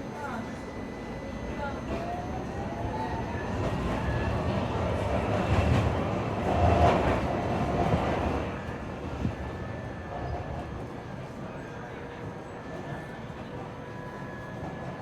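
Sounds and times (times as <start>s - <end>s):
tram wheels rumbling on rail: 1.4s - 15.0s.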